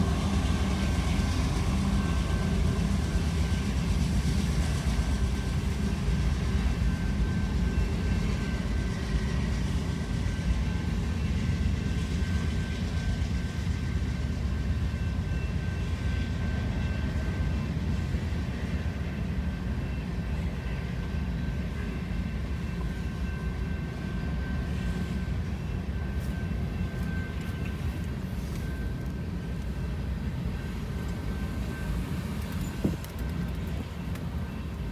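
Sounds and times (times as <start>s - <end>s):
train rumbling along track: 0.0s - 34.9s.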